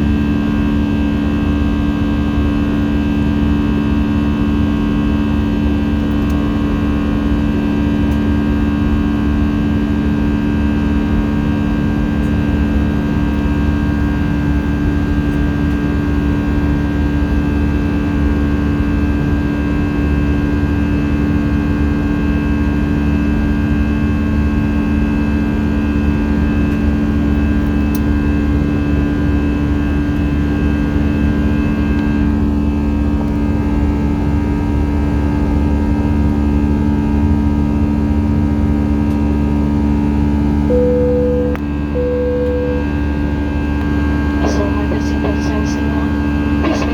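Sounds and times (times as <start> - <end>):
jet cabin drone: 0.0 - 46.9.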